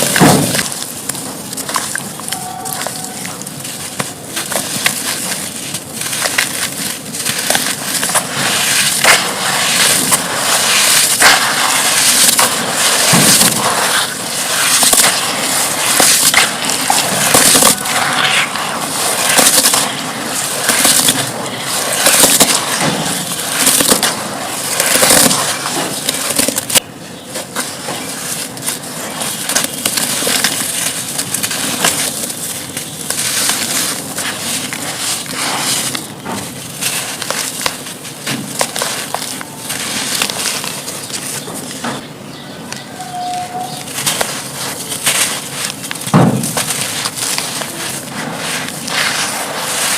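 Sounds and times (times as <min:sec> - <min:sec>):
brittle chunks crunching: 0:00.0 - 0:42.1, 0:43.0 - 0:49.9.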